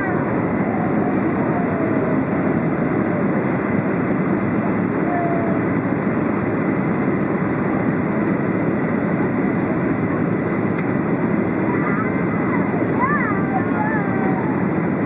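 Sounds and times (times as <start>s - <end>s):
air rushing along fuselage: 0.0s - 15.0s
faint steady whine: 0.0s - 15.0s
jet engines humming: 0.0s - 15.0s.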